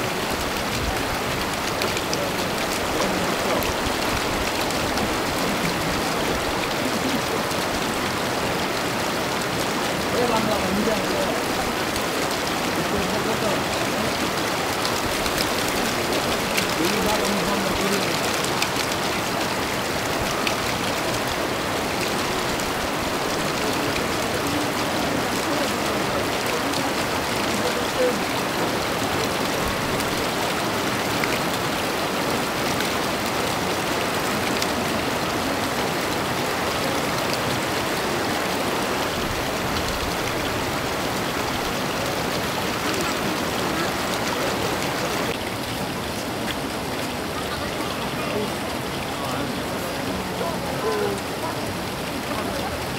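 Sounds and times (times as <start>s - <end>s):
running water rushing: 0.0s - 52.9s.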